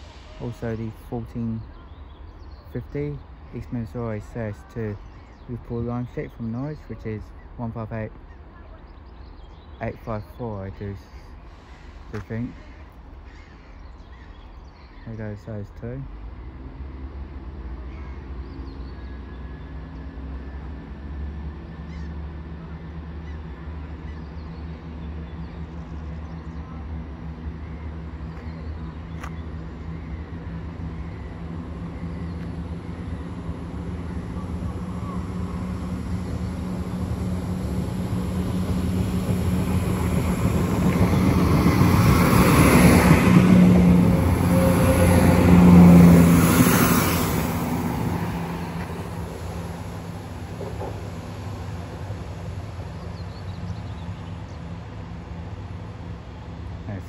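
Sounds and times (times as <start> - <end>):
diesel train engines droning: 0.0 - 57.0.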